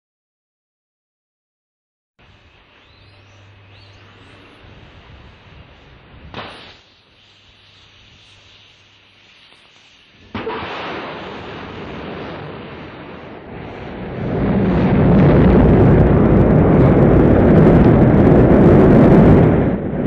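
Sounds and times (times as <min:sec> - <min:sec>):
rocket engines firing: 0:02.2 - 0:20.0.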